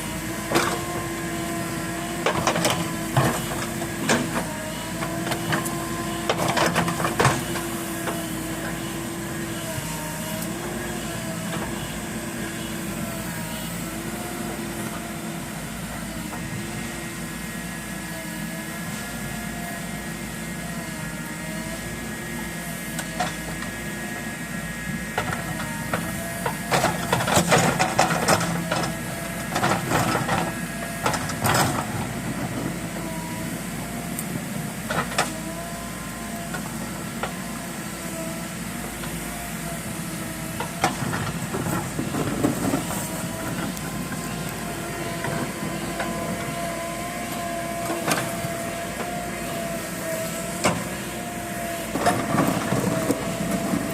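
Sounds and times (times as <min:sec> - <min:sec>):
backhoe engine running: 0:00.0 - 0:53.9.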